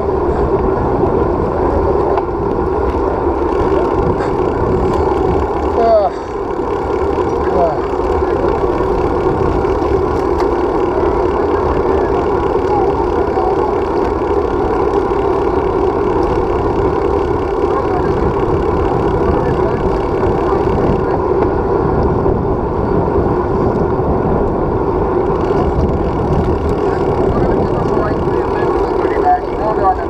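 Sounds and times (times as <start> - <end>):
wind and road noise from bicycle: 0.0 - 30.0.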